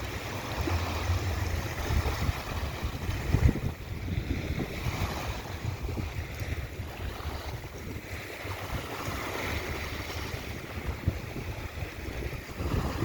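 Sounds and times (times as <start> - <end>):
surf washing onto shore: 0.0 - 13.0
wind buffeting microphone: 0.0 - 13.0.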